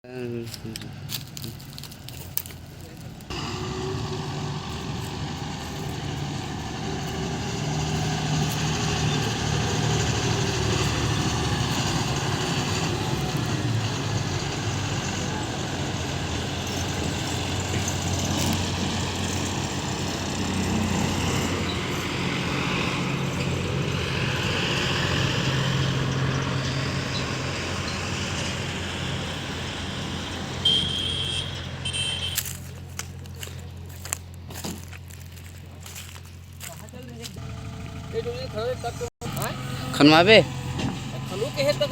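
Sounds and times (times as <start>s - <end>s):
diesel engine running: 0.5s - 41.9s.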